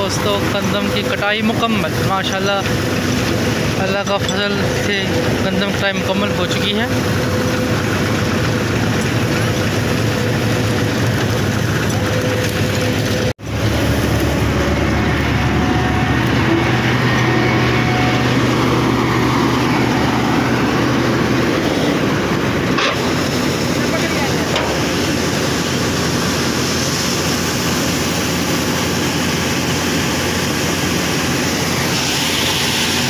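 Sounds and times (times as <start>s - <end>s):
combine harvester running: 0.0s - 33.0s
tractor diesel engine: 0.0s - 33.0s.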